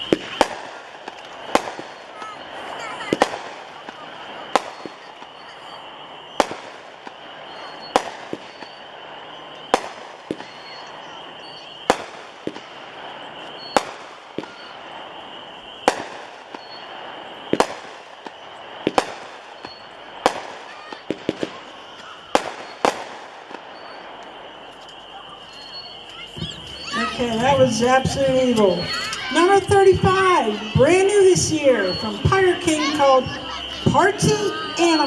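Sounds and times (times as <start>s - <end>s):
firework bangs: 0.0s - 35.0s.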